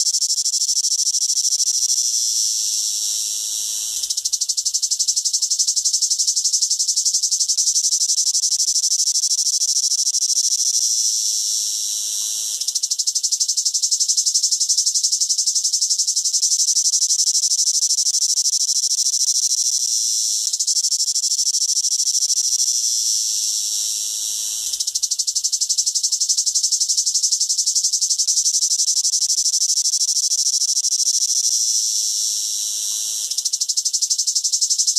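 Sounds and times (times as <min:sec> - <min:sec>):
cicada buzzing: 0:00.0 - 0:34.9.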